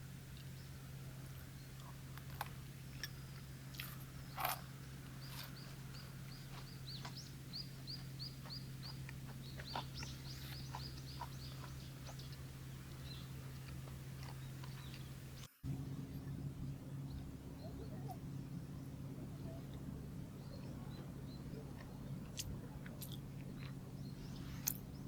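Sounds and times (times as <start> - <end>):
low hum: 0.0 - 25.0
bird chirping: 2.8 - 25.0.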